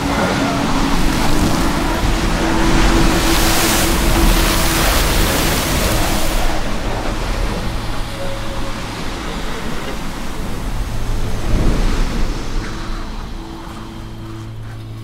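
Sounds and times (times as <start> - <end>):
wind blowing sand hissing: 0.0 - 15.0.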